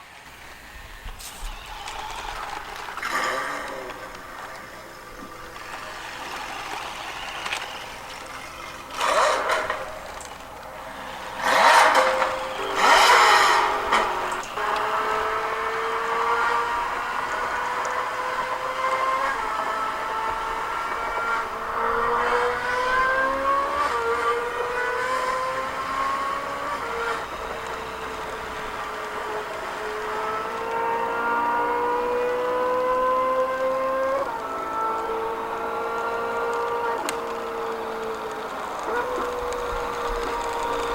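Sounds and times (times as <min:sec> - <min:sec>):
toy car engine revving: 0:00.0 - 0:40.9.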